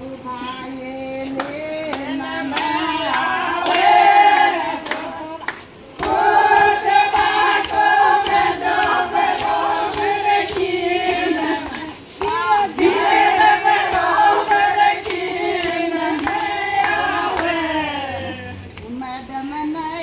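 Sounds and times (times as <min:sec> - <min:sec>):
women singing folk song: 0:00.0 - 0:20.0
hand clapping: 0:01.3 - 0:18.0.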